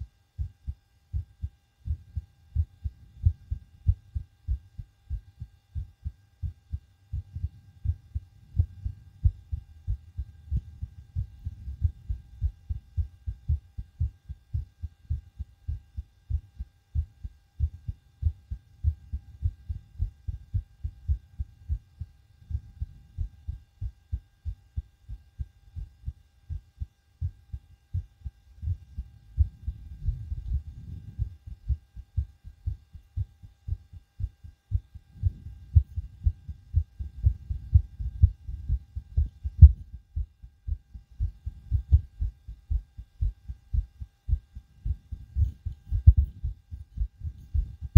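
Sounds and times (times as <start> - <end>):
fast heartbeat thumps: 0.0 - 47.9.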